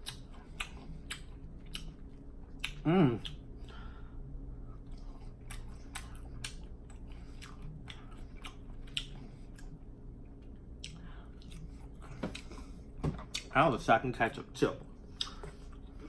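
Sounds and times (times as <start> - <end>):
person chewing with lip smacking: 0.0 - 3.9, 4.8 - 13.5, 15.1 - 16.0.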